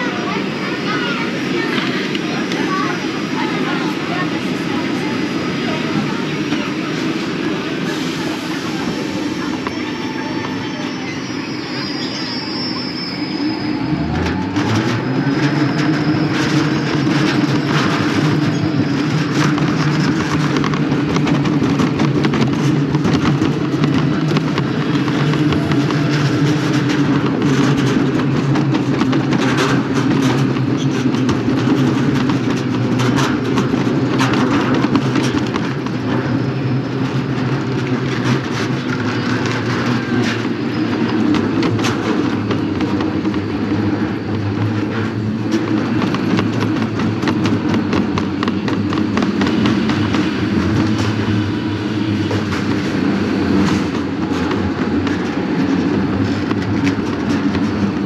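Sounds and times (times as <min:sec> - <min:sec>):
kart rumbling on track: 0:00.0 - 0:58.0.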